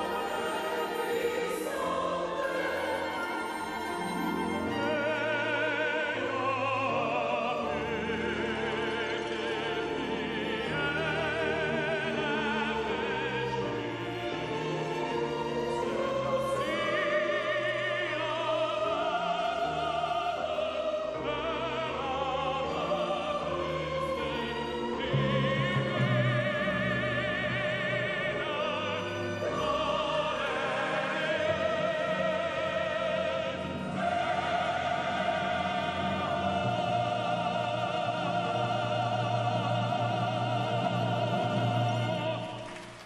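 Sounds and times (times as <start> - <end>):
operatic male singing: 0.0 - 42.9
string orchestra: 0.0 - 43.0.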